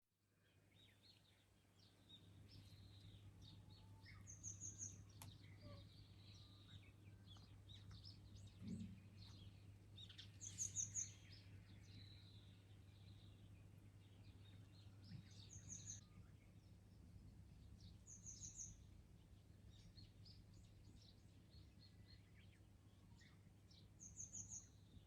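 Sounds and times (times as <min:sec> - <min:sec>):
small birds chirping: 0:00.4 - 0:25.0.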